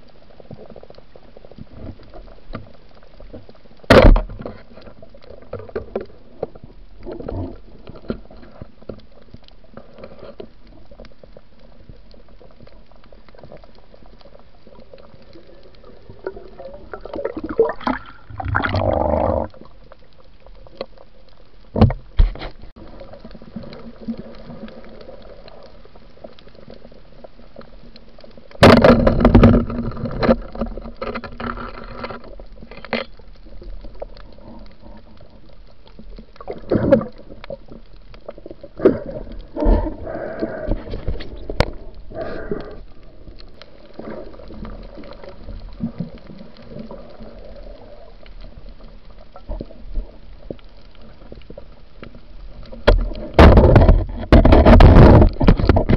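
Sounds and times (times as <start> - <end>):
muffled underwater wash: 0.0 - 55.9
rushing bubbling water: 0.0 - 55.9.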